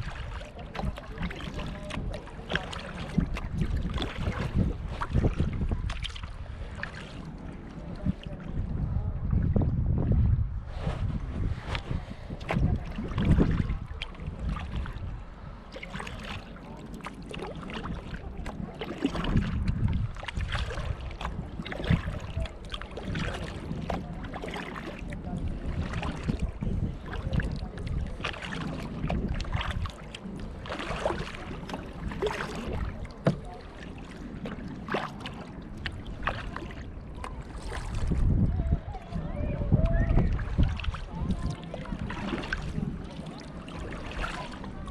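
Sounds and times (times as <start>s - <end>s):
kayak paddle splashing in water: 0.0s - 8.8s, 11.4s - 44.9s
wind on microphone: 0.0s - 44.9s.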